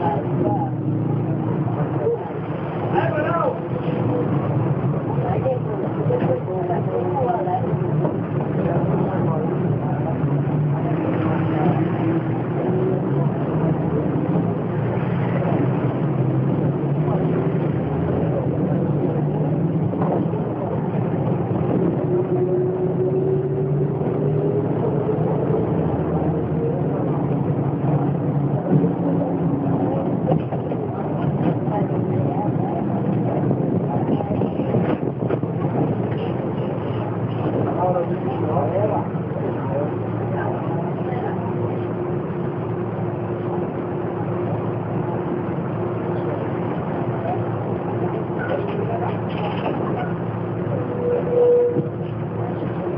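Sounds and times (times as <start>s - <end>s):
bus diesel engine pulling: 0.0s - 52.9s.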